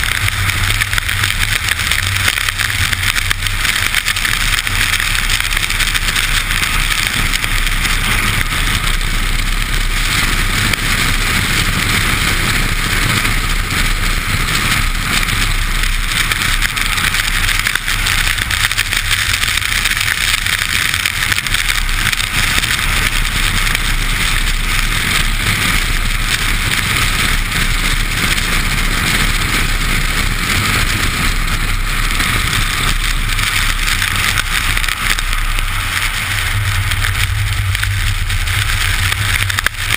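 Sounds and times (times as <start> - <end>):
low rumble: 0.0 - 39.9
tyres on wet road: 0.0 - 39.9.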